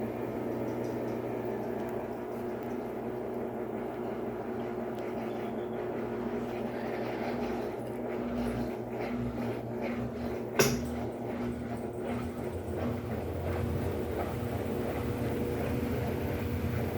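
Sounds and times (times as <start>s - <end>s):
washing machine spinning: 0.0s - 16.9s.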